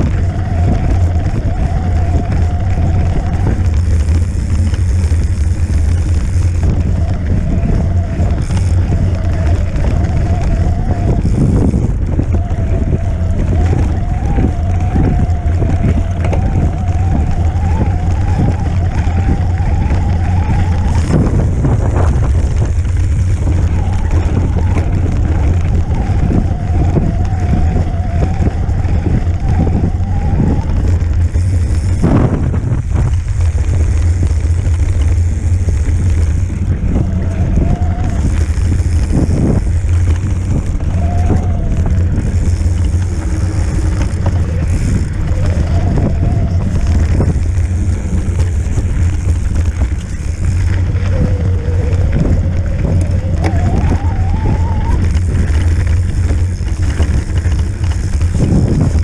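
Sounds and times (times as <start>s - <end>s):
bike bumps: 0.0s - 59.0s
electric motor whine: 0.0s - 59.0s
wind buffeting microphone: 0.0s - 59.0s.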